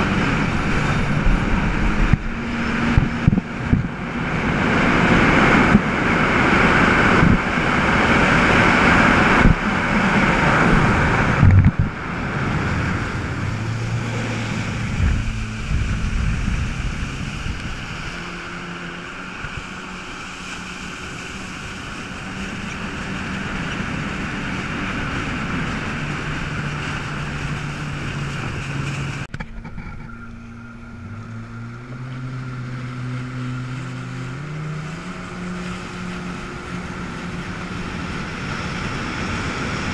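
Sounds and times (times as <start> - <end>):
jet ski engine: 0.0 - 39.9
rushing wind and water: 0.0 - 39.9.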